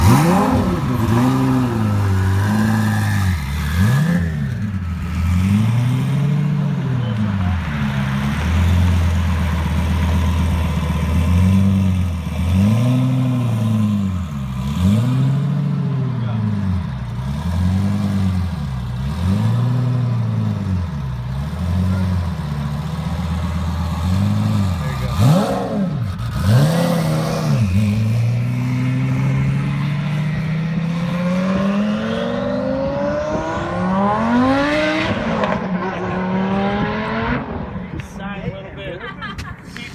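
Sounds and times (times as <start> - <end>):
sports car engine revving: 0.0 - 37.8.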